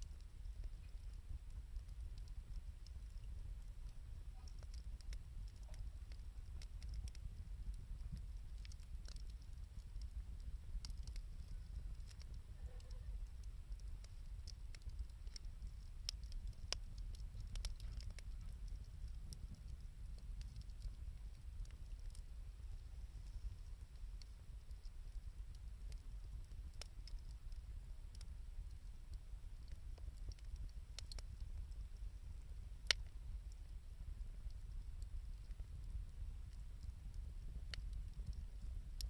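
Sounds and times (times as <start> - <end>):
low steady rumble: 0.0 - 39.0
wood fire crackling: 0.0 - 39.0.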